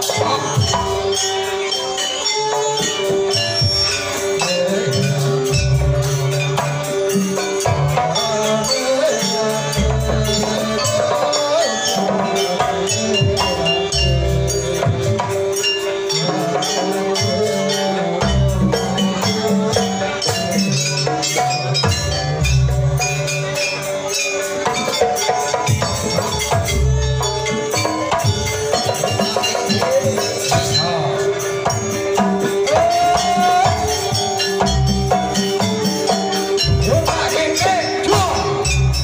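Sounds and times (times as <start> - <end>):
clashing percussion strokes: 0.0 - 39.0
drums keyboard and percussion ensemble: 0.0 - 39.0.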